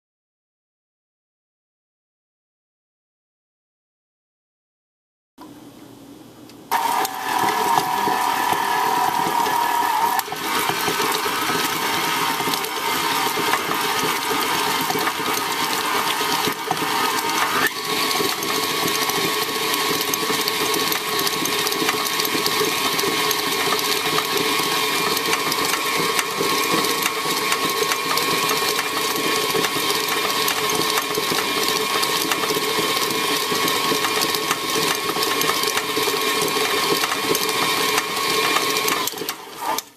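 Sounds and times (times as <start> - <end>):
beater churning against metal bowl: 6.7 - 39.9
stand mixer motor whine: 6.7 - 39.9.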